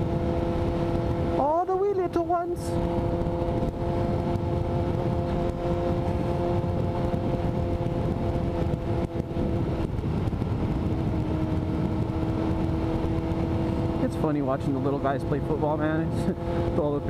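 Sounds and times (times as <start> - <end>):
motorcycle engine running: 0.0 - 17.0
road and wind rumble: 0.0 - 17.0.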